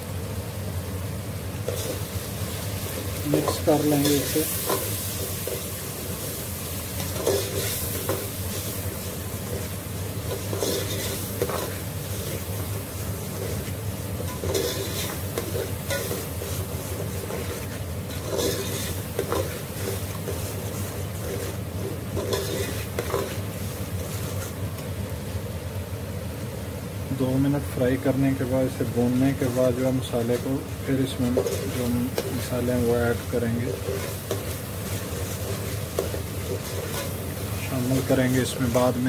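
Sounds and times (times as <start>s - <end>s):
frying sizzle: 0.0s - 39.0s.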